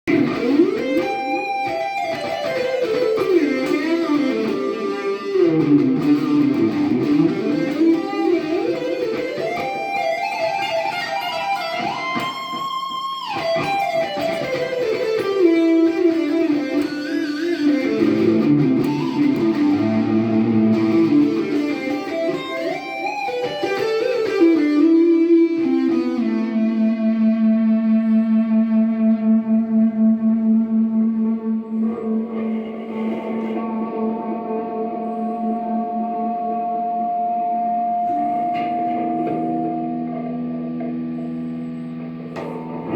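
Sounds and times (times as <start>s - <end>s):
distorted electric guitar lead: 0.0s - 42.9s.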